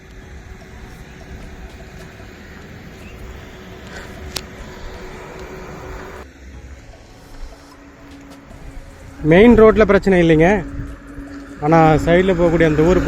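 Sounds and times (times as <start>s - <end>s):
faint steady hum: 0.0s - 13.0s
road traffic rumble: 0.0s - 13.0s.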